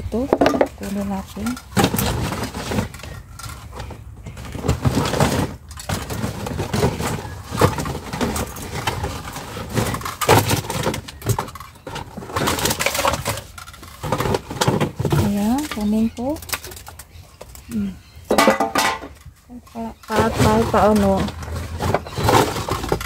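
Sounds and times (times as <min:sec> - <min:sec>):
plastic bags rustling: 0:00.0 - 0:23.0.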